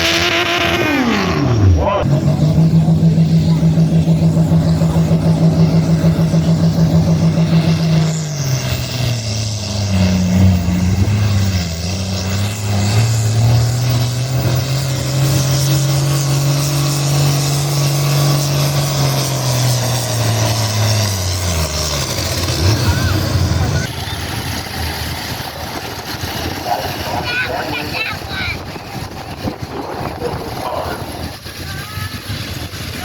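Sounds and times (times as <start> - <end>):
vehicle engine under load: 0.0 - 33.0.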